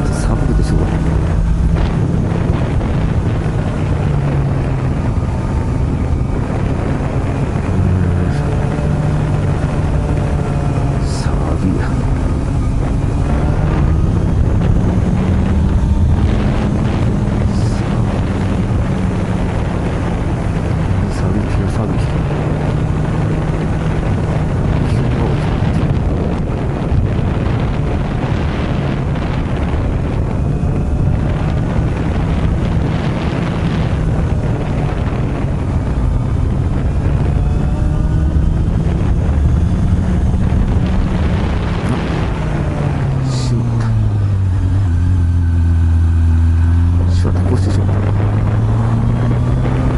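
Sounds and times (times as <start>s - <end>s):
motorcycle engine revving: 0.0s - 49.9s
wind noise on microphone: 0.0s - 49.9s.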